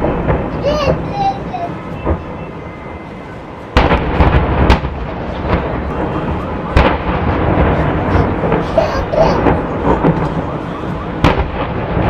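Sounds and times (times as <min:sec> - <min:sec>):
crackling rumble: 0:00.0 - 0:12.0
loud blasts: 0:00.0 - 0:12.0.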